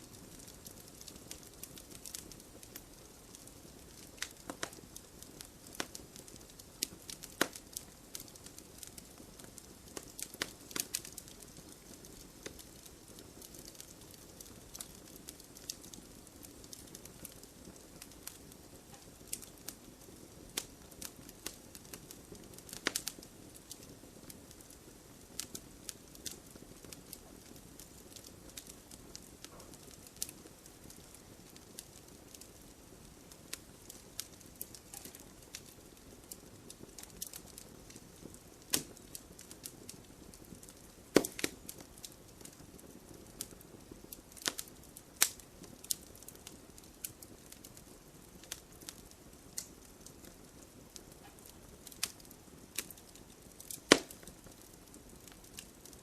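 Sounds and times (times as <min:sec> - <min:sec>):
soft hiss of flame: 0:00.0 - 0:56.0
wood fire crackling and popping: 0:00.0 - 0:56.0.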